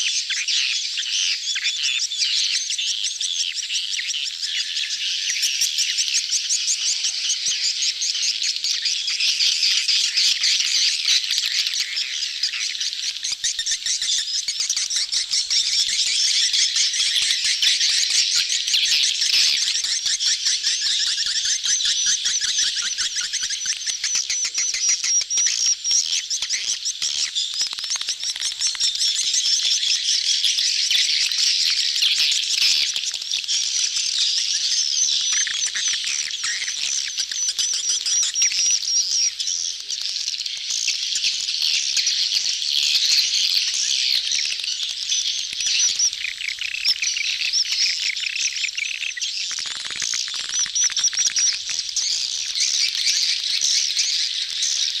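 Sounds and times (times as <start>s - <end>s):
birds twittering: 0.0s - 55.0s.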